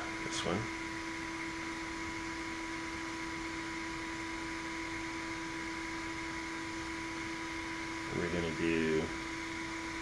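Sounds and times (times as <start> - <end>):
steady hum with constant tones: 0.0 - 10.0.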